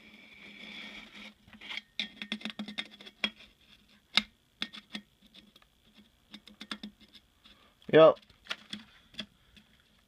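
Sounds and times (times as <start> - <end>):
handling clicks taps and scrapes: 1.1 - 10.0.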